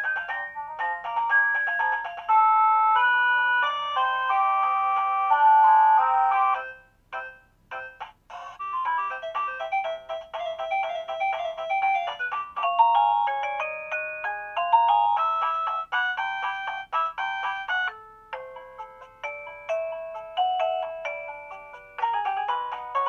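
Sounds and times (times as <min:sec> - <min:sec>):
doorbell chime beeping melodies: 0:00.0 - 0:23.0.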